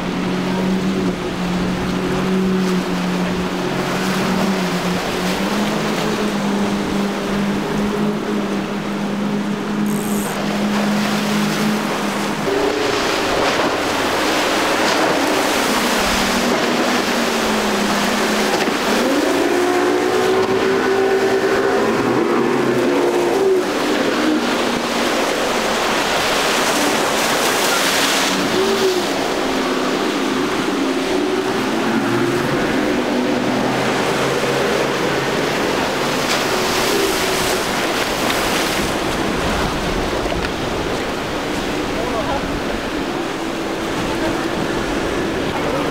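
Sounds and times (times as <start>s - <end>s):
outboard engines running: 0.0s - 45.9s.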